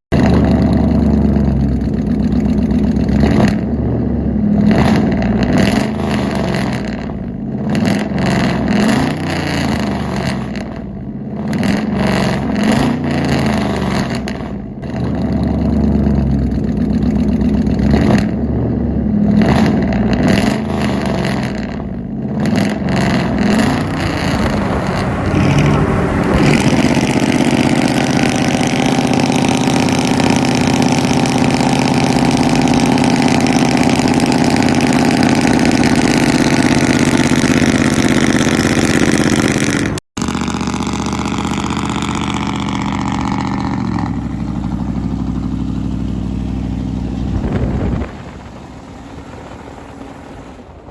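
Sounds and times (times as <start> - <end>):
pickup truck engine revving: 0.1 - 50.9.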